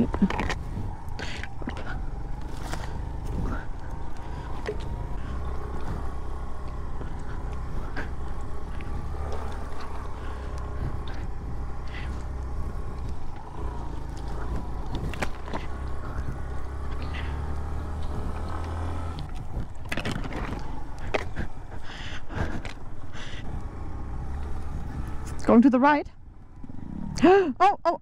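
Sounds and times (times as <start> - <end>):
motorcycle engine running: 0.0 - 27.6.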